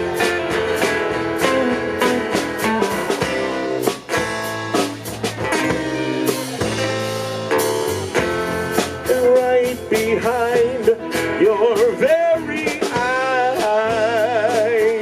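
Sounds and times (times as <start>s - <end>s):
drums: 0.0s - 15.0s
guitar: 0.0s - 15.0s.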